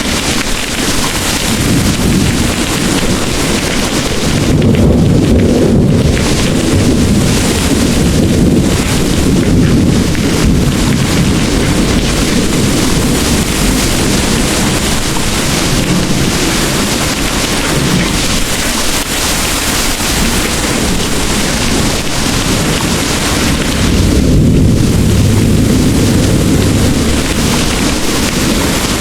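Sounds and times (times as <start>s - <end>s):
distant thunder rumble: 0.0s - 29.0s
heavy rain pouring: 0.0s - 29.0s.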